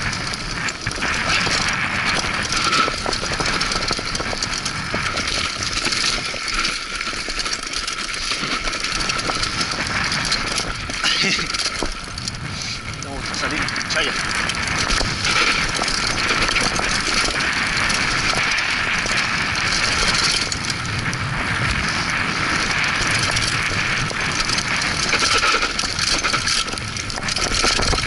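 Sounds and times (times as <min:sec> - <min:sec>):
bike rattling and clicking: 0:00.0 - 0:28.0
bike tyres grinding over dirt: 0:00.0 - 0:28.0.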